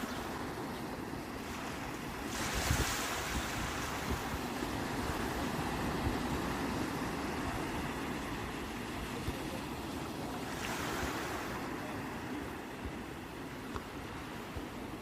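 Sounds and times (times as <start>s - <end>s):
waves breaking on shore: 0.0s - 15.0s
wind rumble on microphone: 0.0s - 15.0s.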